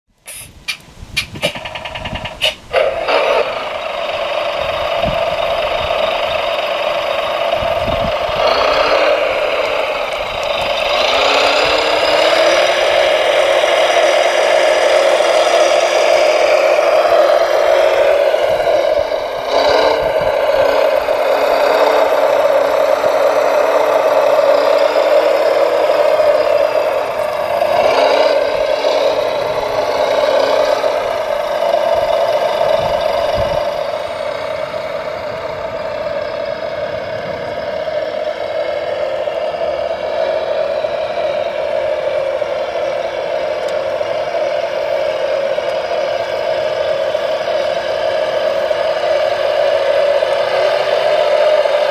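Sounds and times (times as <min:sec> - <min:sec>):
model loader motors whining: 0:00.2 - 0:51.9.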